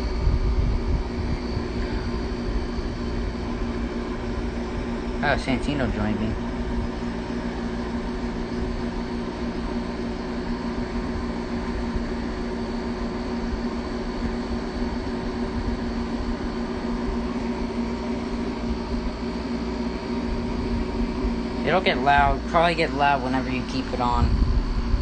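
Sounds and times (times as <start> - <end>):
air conditioner fan rush: 0.0 - 25.0
compressor hum: 0.0 - 25.0.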